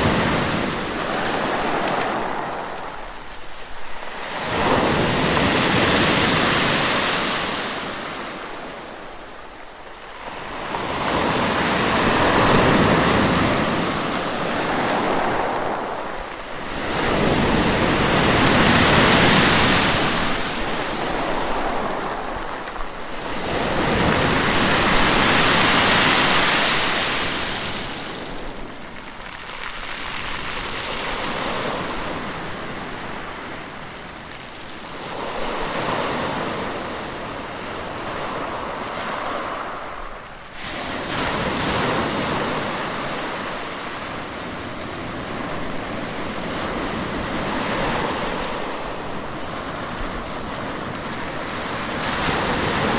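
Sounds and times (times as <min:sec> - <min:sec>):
ocean waves surging: 0:00.0 - 0:52.9.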